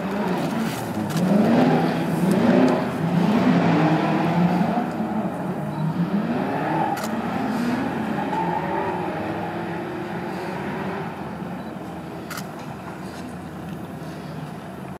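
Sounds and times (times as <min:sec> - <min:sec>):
race car engines: 0:00.0 - 0:14.9.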